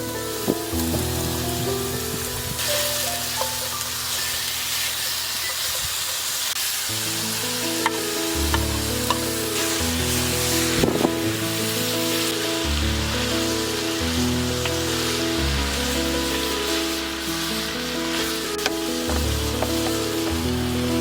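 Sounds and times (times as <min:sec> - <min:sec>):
soft background music: 0:00.0 - 0:05.6, 0:07.1 - 0:21.0
food sizzling in a pan: 0:00.0 - 0:21.0.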